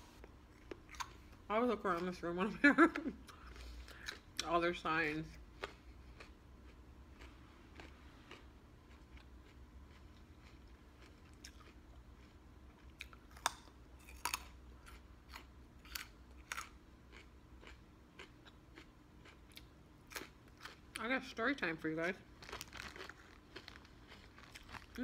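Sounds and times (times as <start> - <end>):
person chewing crunchy food: 0.1 - 2.0, 3.2 - 4.4, 5.4 - 21.0, 22.2 - 25.0.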